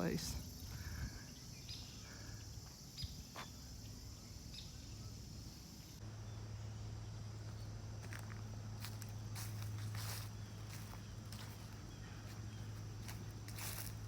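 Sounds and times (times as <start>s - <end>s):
insects chirring: 0.0s - 14.0s
low steady hum: 0.0s - 14.0s.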